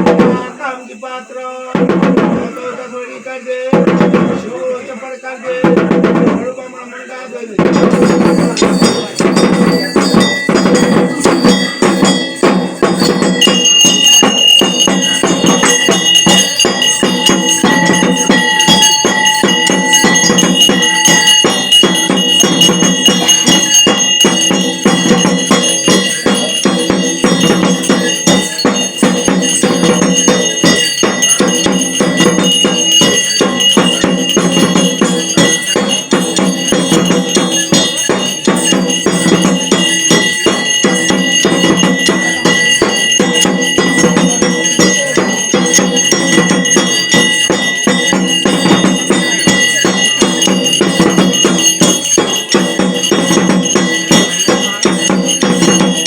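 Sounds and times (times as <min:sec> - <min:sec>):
fast drum strikes: 0:00.0 - 0:00.6, 0:01.7 - 0:02.6, 0:03.7 - 0:04.6, 0:05.6 - 0:06.5, 0:07.5 - 0:56.0
metal bells ringing: 0:00.0 - 0:56.0.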